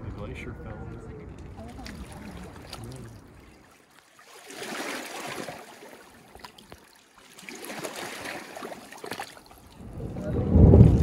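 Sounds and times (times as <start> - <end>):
small waves washing on rocky shore: 1.5 - 11.0.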